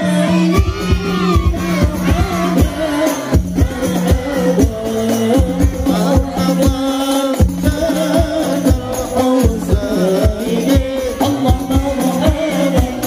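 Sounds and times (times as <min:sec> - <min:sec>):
men singing in unison: 0:00.0 - 0:13.0
frame drums beating: 0:00.3 - 0:13.0.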